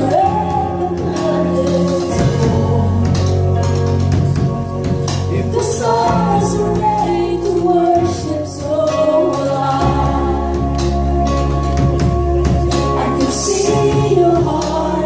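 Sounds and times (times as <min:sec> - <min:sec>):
woman singing lead: 0:00.0 - 0:03.8, 0:05.3 - 0:11.4, 0:12.4 - 0:15.0
bass guitar: 0:00.0 - 0:15.0
drums: 0:00.0 - 0:15.0
keyboard chords: 0:00.0 - 0:15.0.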